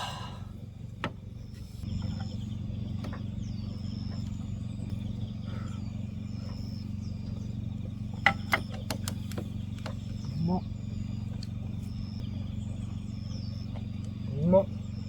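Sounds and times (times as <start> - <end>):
faint high chirping calls: 0.0 - 15.0
low mechanical hum: 0.0 - 15.0.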